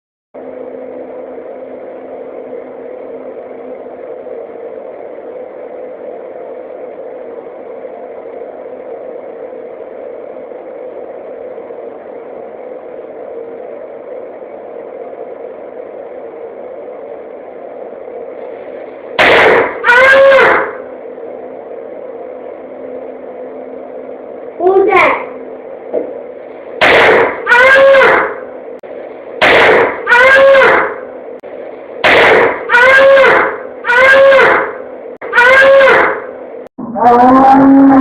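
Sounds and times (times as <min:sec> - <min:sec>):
mechanical hum: 0:00.4 - 0:38.0.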